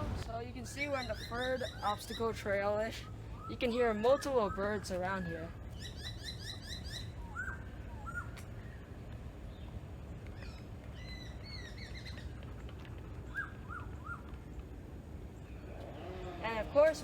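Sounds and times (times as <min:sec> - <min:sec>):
low steady background rumble: 0:00.0 - 0:17.0
wild birds chirping: 0:00.0 - 0:17.0.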